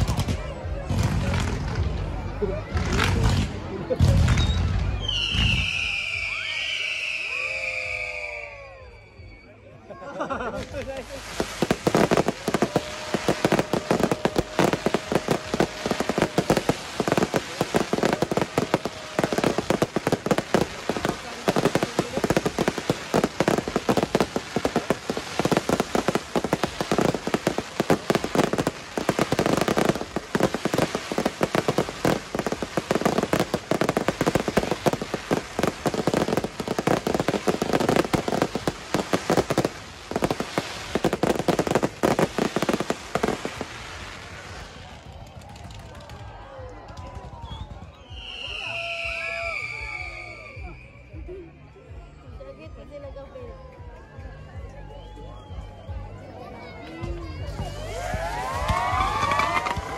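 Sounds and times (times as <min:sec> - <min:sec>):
fireworks cracking and banging: 0:00.0 - 0:07.6, 0:10.4 - 0:50.2, 0:57.0 - 0:59.9.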